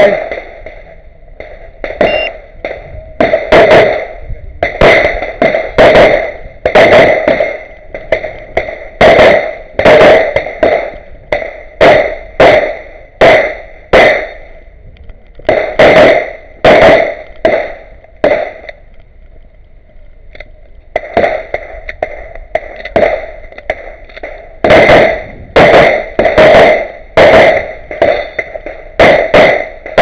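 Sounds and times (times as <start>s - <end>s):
pistol shots: 1.4s - 14.5s, 15.5s - 18.7s, 21.0s - 30.0s.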